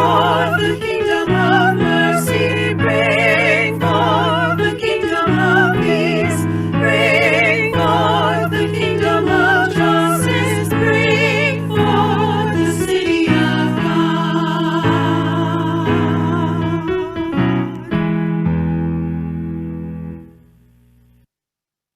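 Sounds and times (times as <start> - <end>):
choir singing with vibrato: 0.0 - 18.0
sustained keyboard chords: 0.0 - 21.2.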